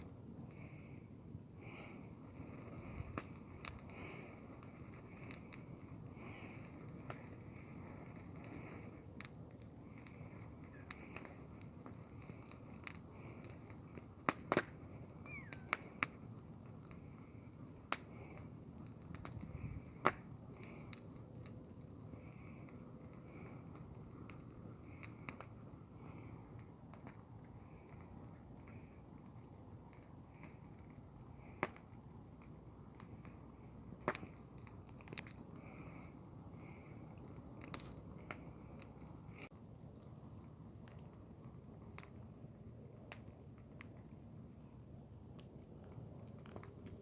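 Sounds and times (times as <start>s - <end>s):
bonfire crackling and popping: 0.0s - 47.0s
low steady fire rumble: 0.0s - 47.0s.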